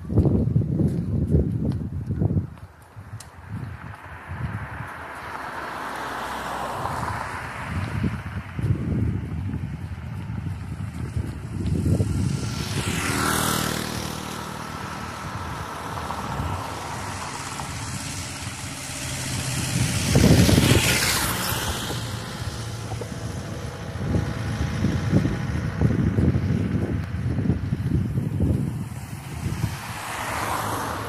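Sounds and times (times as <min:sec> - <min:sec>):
vehicles passing: 0:00.0 - 0:31.0
wind buffeting microphone: 0:00.0 - 0:31.0.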